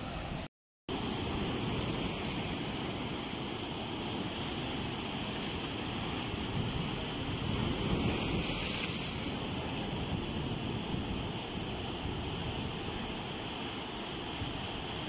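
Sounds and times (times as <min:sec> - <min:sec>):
sea surf breaking over rocks: 0:00.0 - 0:15.0.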